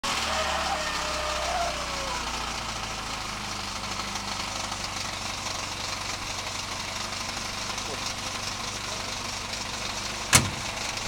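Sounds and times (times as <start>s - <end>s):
car engine knocking and idling: 0.0s - 11.0s.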